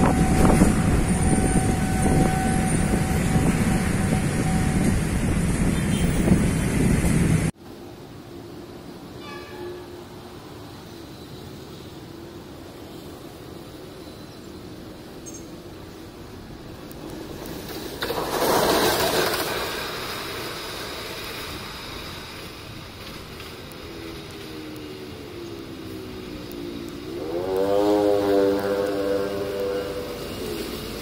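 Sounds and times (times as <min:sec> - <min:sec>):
diesel locomotive engine drone: 0:00.0 - 0:31.0.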